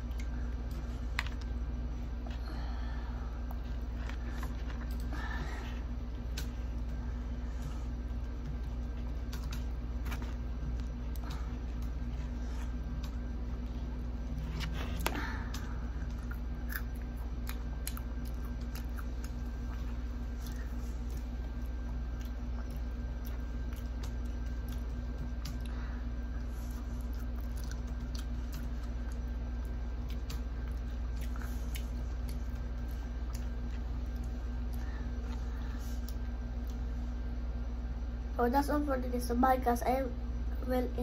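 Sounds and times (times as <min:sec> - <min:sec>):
low hum: 0:00.0 - 0:41.0
child chewing crispy chicken: 0:03.4 - 0:36.9.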